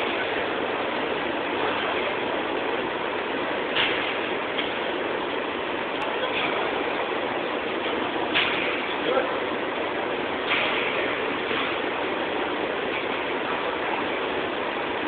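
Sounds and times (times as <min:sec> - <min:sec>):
machine running noise: 0:00.0 - 0:15.0.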